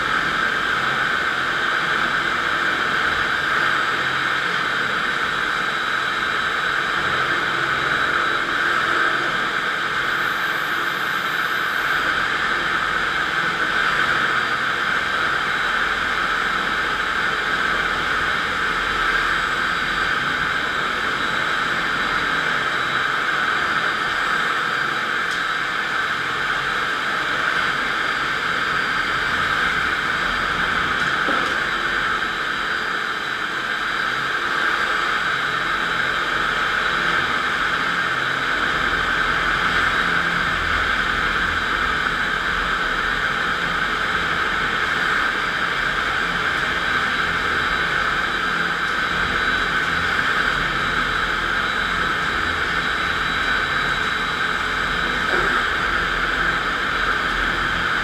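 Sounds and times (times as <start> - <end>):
concrete floor grinder running: 0.0 - 58.0.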